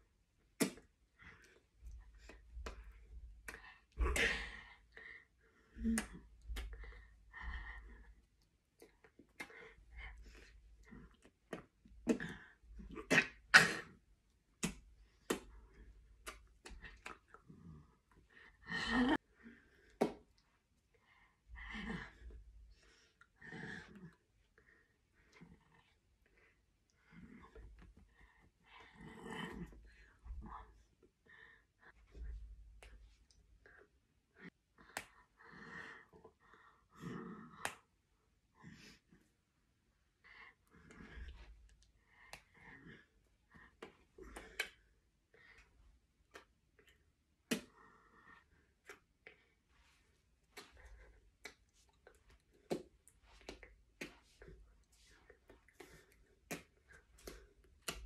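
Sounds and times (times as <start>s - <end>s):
quiet breaths and mouth sounds: 0.0s - 58.0s.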